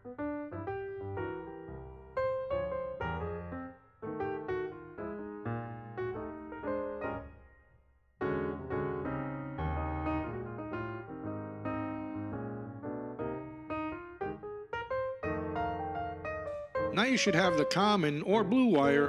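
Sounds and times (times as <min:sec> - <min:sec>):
piano music: 0:00.0 - 0:07.5, 0:08.2 - 0:19.0.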